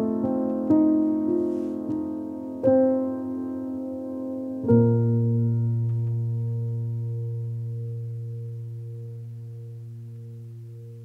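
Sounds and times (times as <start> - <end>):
slow soft piano chords: 0.0 - 11.0.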